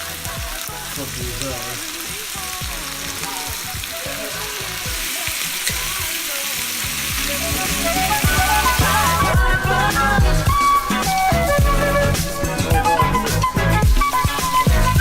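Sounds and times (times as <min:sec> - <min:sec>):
background music: 0:00.0 - 0:15.0
chicken sizzling in a skillet: 0:00.0 - 0:15.0.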